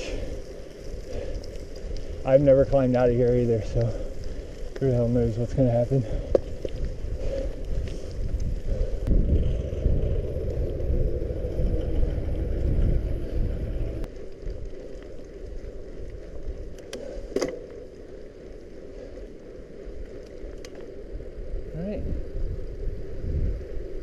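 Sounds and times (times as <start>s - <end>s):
bicycle tyre and frame rumble: 0.0s - 24.0s
wind buffeting microphone: 0.0s - 24.0s.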